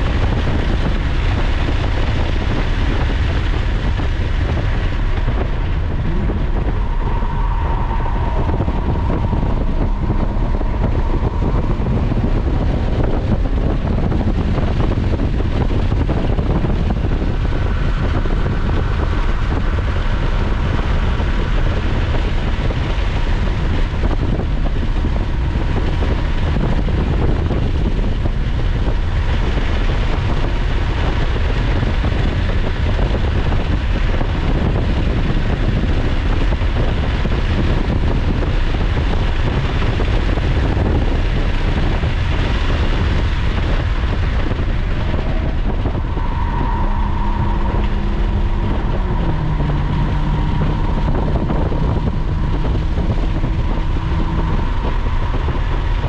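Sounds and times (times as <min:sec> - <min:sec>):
car engine inside cabin: 0:00.0 - 0:56.0
low road rumble: 0:00.0 - 0:56.0.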